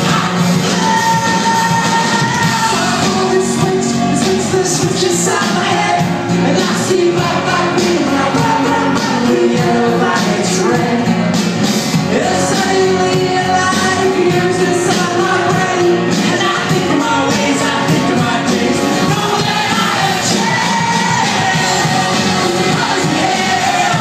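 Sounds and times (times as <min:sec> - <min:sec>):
amplified guitars: 0:00.0 - 0:24.0
indie rock band playing live: 0:00.0 - 0:24.0
several voices singing: 0:00.0 - 0:24.0.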